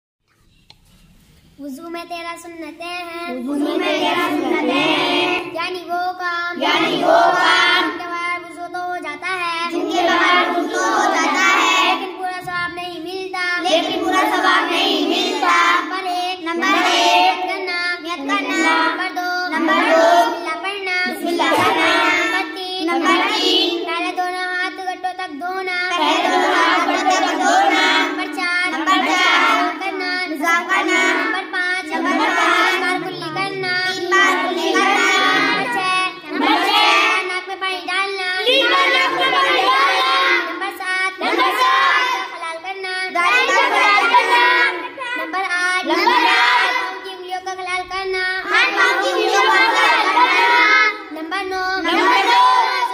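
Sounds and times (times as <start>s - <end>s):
girl reciting: 0.6s - 52.9s.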